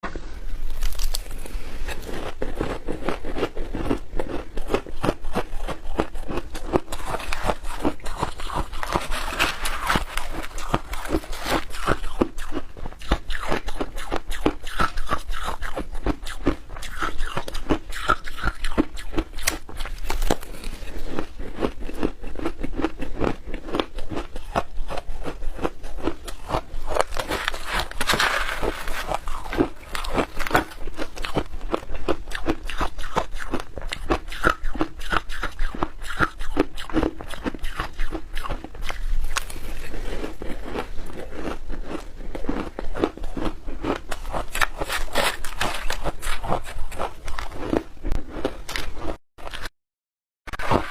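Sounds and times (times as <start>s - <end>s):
crunching and chewing ice: 0.0s - 49.7s, 50.5s - 50.9s.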